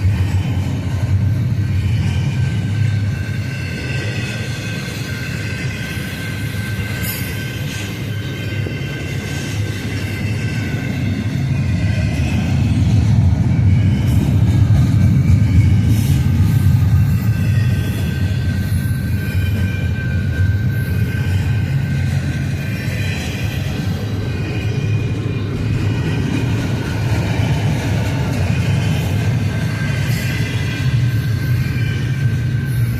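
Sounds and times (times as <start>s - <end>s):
freight train cars rumbling past: 0.0s - 32.9s
high wheel squeal: 1.4s - 14.4s, 15.0s - 32.9s.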